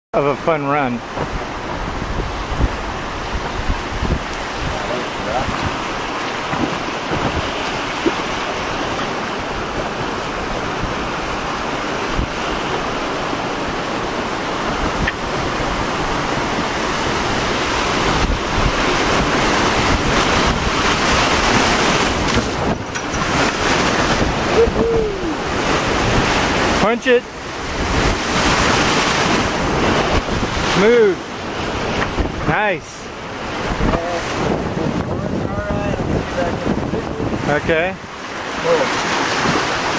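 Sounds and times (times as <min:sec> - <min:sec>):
river rapids rushing and splashing: 0:00.2 - 0:39.9
wind buffeting microphone: 0:00.9 - 0:39.9.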